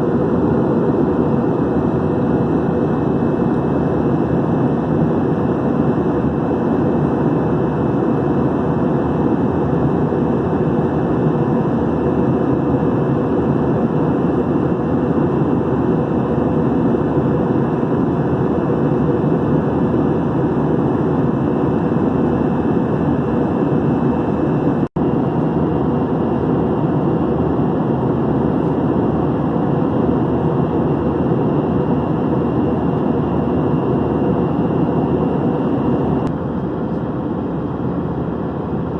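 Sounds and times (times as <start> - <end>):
airliner cabin roar: 0.0 - 38.9.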